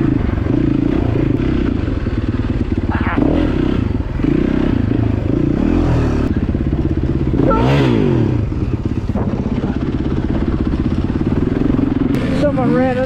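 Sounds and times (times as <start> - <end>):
motorbike engine running and revving: 0.0 - 13.0.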